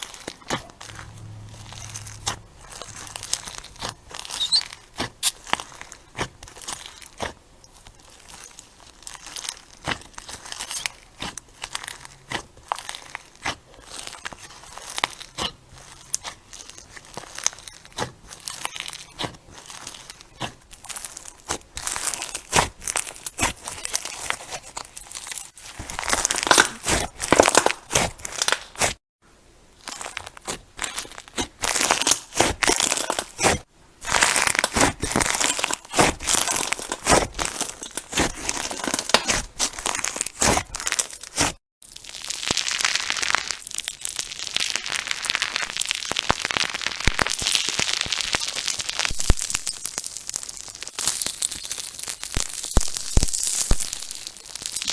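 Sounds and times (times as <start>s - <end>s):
slime crackling and popping: 0.0s - 29.0s, 29.8s - 54.9s.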